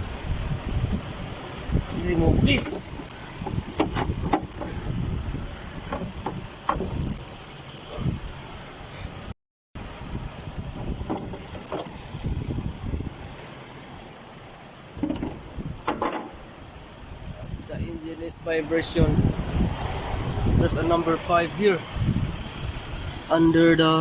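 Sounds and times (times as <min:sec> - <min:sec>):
engine idling roughly: 0:01.5 - 0:09.2, 0:10.5 - 0:24.0.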